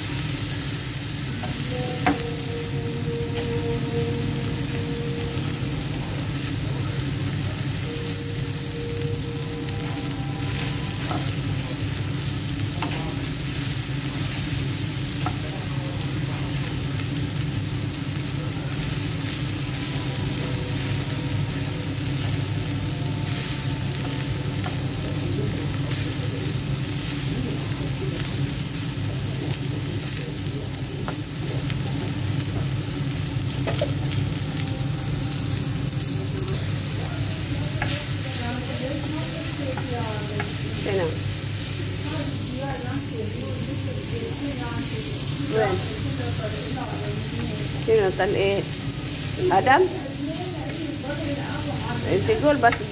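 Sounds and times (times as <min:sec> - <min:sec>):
food sizzling on a griddle pan: 0:00.0 - 0:52.9.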